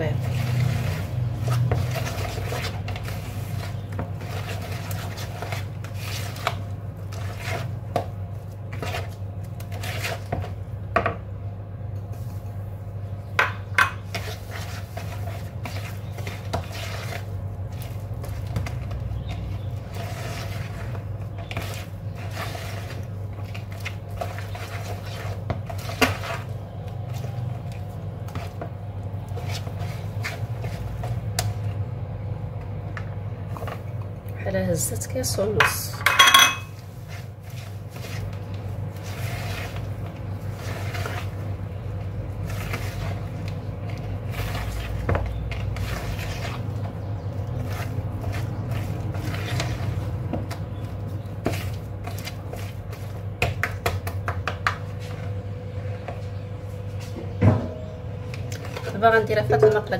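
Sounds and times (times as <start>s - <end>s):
whisk stirring thick batter: 0.0s - 10.9s, 14.0s - 31.9s, 36.7s - 56.3s, 58.3s - 59.9s.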